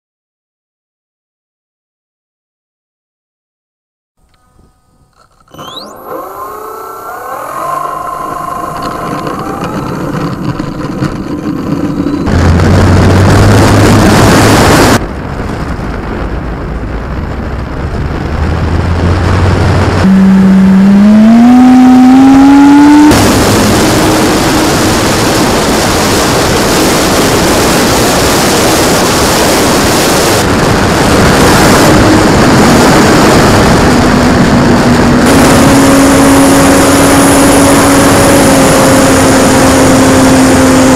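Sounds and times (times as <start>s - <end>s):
electric motor whine: 4.2s - 15.0s, 18.7s - 40.9s
propeller and wind rush: 5.2s - 40.9s.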